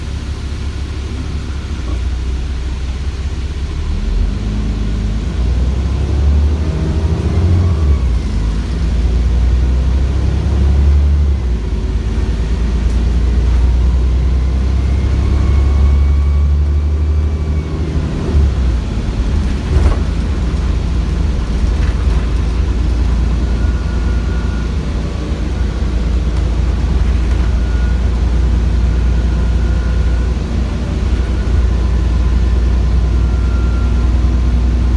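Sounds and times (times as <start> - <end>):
bus diesel engine accelerating: 0.0 - 34.9
turbocharger whine: 0.0 - 34.9.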